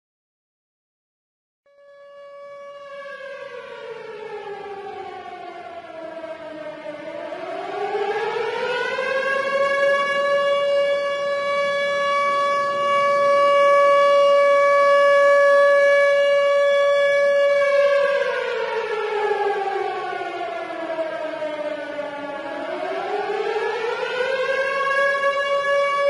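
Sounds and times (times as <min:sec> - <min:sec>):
tornado siren wailing: 0:01.7 - 0:26.0.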